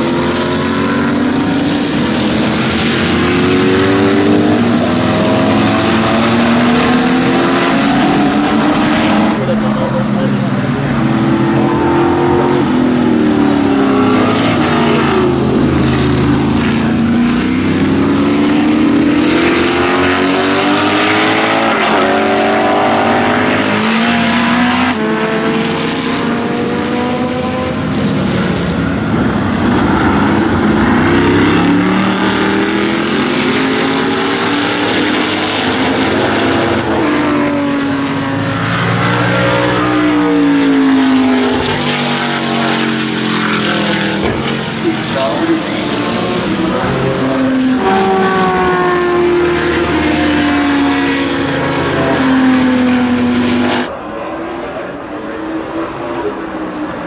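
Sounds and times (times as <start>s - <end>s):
race car engines revving: 0.0s - 57.0s.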